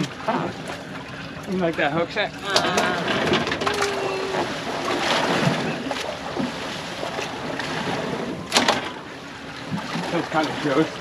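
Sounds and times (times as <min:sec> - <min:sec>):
water noise: 0:00.0 - 0:11.0
wind: 0:00.0 - 0:11.0.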